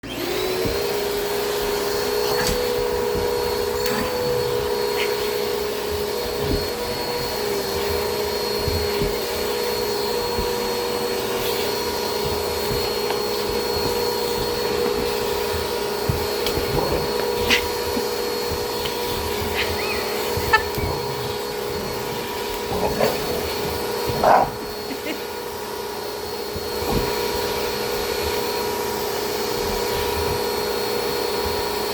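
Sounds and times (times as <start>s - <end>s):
vacuum cleaner motor whine: 0.0s - 31.9s.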